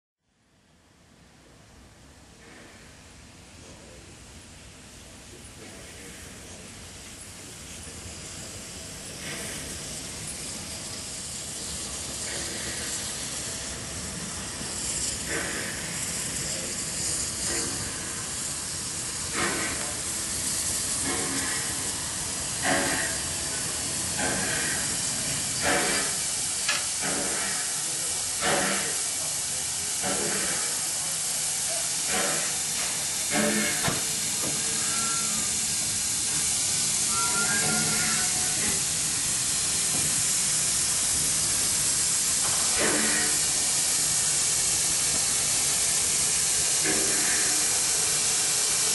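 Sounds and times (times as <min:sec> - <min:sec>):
steam hiss: 0:02.3 - 0:48.9
steam locomotive exhaust chuffs: 0:05.6 - 0:48.9.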